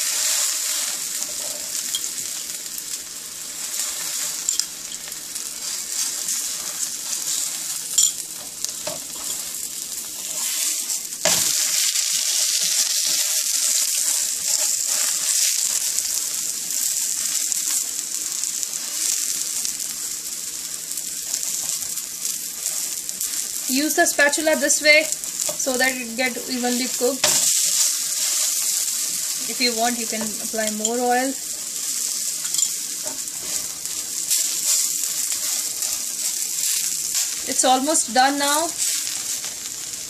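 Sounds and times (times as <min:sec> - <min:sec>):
flatbread sizzling on a skillet: 0:00.0 - 0:40.0.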